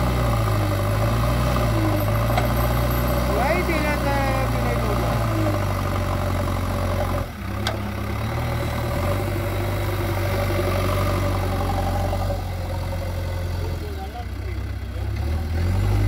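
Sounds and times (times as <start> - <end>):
backhoe diesel engine under load: 0.0 - 16.0.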